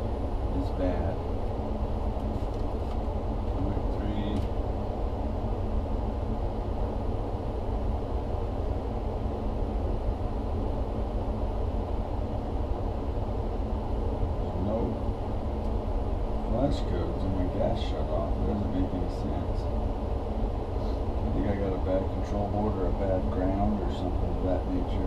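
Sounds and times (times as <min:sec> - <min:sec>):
furnace fan rushing air: 0:00.0 - 0:25.0
furnace motor hum: 0:00.0 - 0:25.0.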